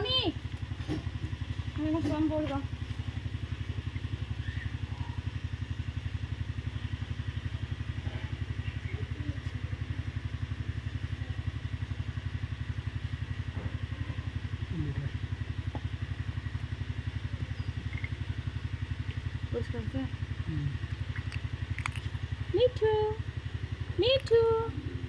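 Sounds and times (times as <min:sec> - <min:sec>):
small engine pulsing drone: 0:00.0 - 0:25.0.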